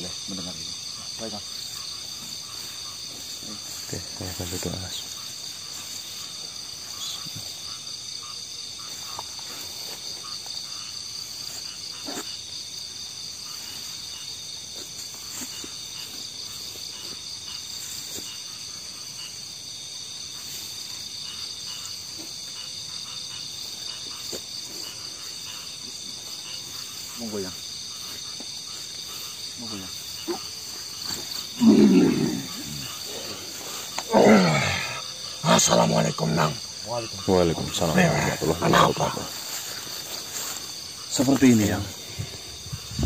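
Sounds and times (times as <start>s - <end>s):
crickets and insects trilling: 0.0s - 43.0s.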